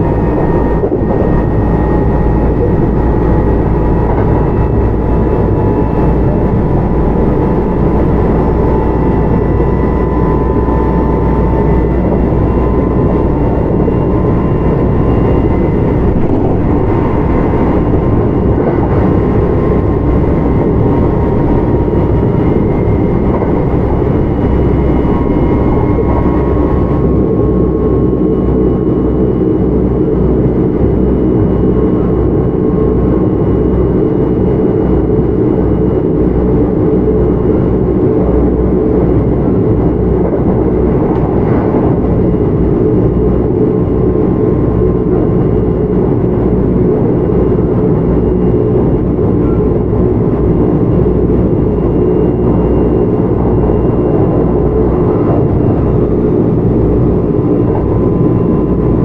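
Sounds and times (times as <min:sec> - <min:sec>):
faint steady whine tones: 0:00.0 - 0:59.0.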